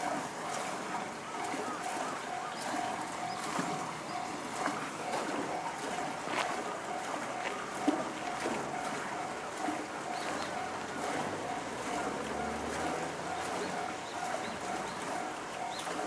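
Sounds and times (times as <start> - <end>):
level crossing warning bell: 0.0 - 16.0.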